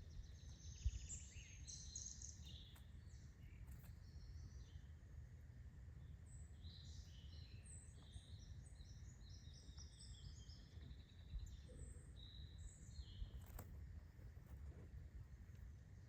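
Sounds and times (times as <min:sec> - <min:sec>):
small bird twittering song: 0:00.0 - 0:05.1, 0:05.9 - 0:13.8
low background rumble: 0:00.0 - 0:16.0.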